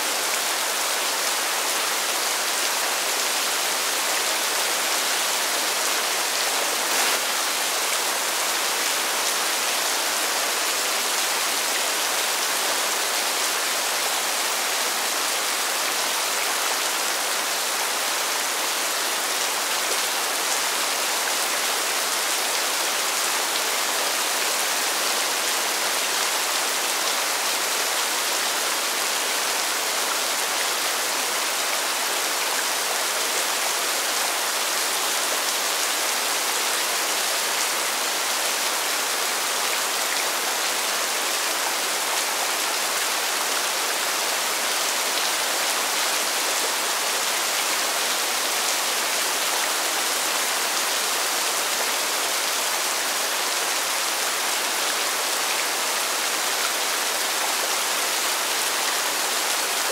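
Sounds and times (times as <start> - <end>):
rain falling on pavement: 0.0 - 59.9.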